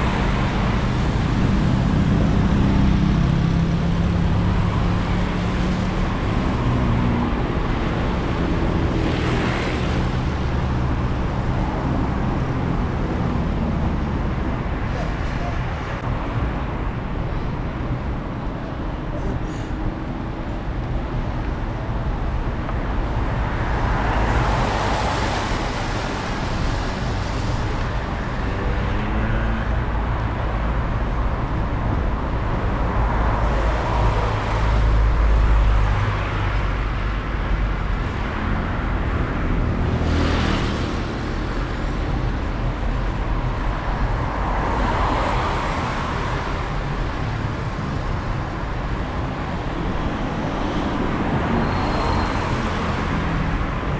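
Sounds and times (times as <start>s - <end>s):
cars passing on wet street: 0.0s - 18.2s, 19.3s - 53.9s
background traffic noise: 0.0s - 53.9s.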